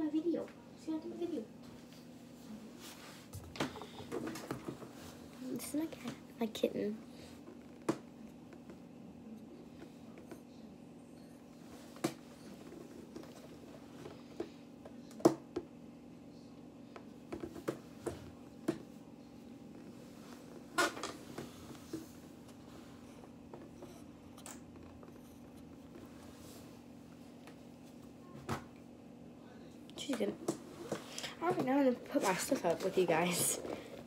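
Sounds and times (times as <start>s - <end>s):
low room hum: 0.0s - 34.0s.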